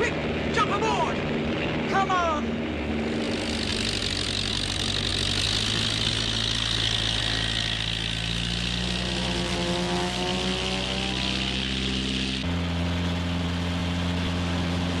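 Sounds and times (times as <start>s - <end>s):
engine whine revving up: 0.0s - 15.0s
propeller engine running: 0.0s - 15.0s.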